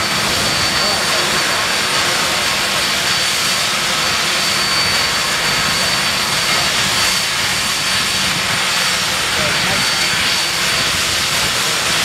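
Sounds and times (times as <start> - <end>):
jet engines rushing with whine: 0.0 - 12.0.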